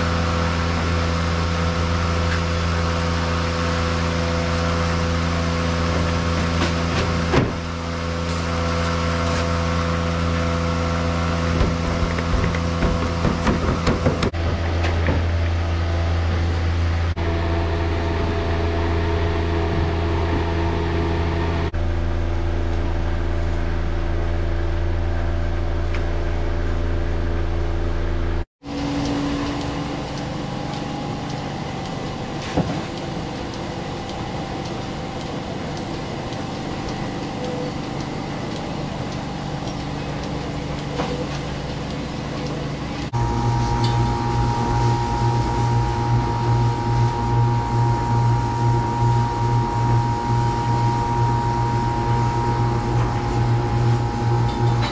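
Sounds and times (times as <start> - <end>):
barn machinery humming: 0.0 - 54.9.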